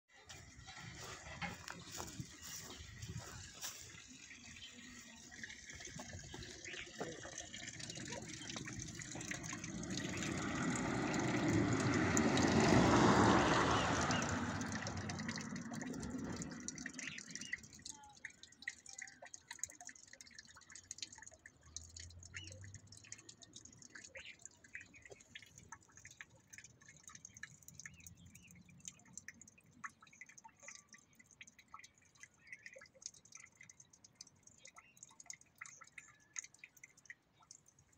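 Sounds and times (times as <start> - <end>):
water dripping into a trough: 0.1 - 37.9.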